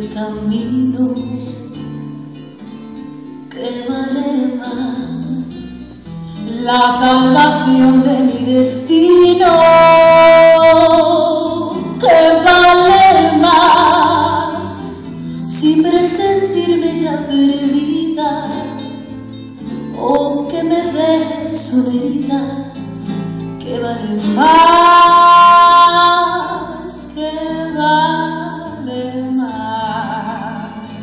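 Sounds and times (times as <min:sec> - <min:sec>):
woman singing: 0:00.0 - 0:01.8, 0:03.5 - 0:19.1, 0:19.9 - 0:22.9, 0:23.5 - 0:31.0
guitars: 0:00.0 - 0:31.0.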